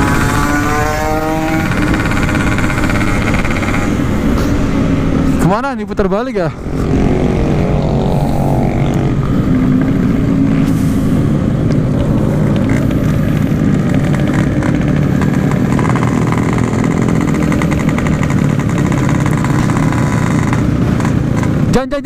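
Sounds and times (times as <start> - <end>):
two-stroke motorcycle engine: 0.0 - 22.0.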